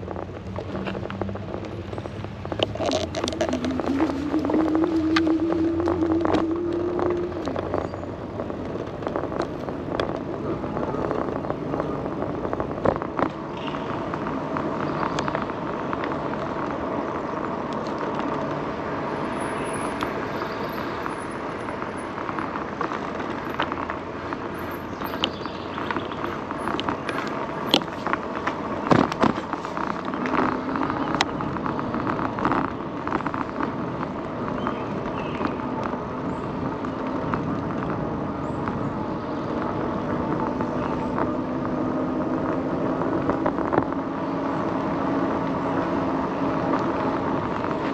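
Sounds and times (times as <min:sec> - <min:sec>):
bike tyres rolling on trail: 0:00.0 - 0:47.9.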